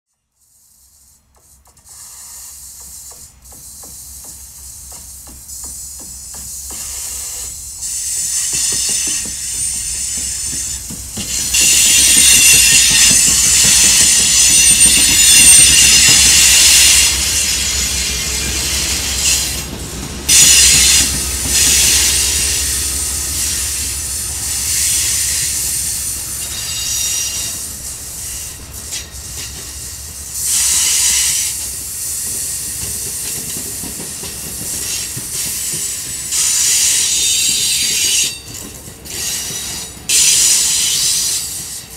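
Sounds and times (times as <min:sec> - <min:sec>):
train wheels squealing: 0:00.4 - 0:41.9
diesel locomotives rumbling: 0:02.8 - 0:41.9.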